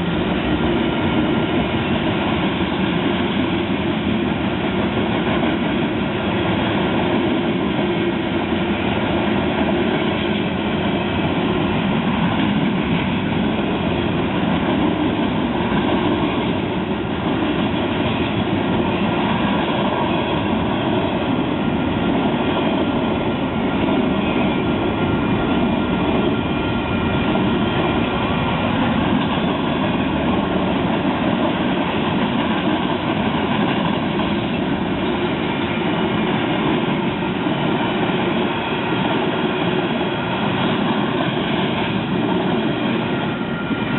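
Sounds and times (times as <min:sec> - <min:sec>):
train wheels rolling on rail: 0:00.0 - 0:43.9.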